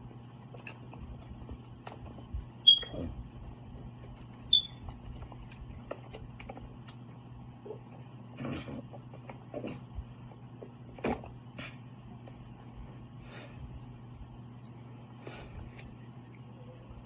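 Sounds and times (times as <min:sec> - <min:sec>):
low steady hum: 0:00.0 - 0:17.0
wet eating clicks and smacks: 0:00.3 - 0:10.0, 0:10.9 - 0:17.0.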